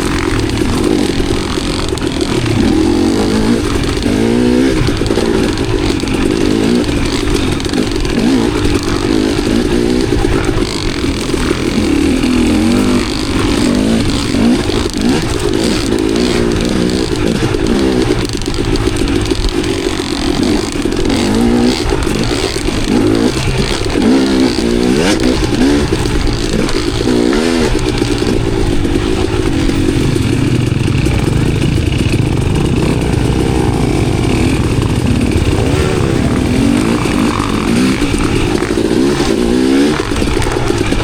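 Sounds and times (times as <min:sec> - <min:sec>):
bike rattling over rough ground: 0:00.0 - 0:41.0
dirt bike engine revving: 0:00.0 - 0:41.0.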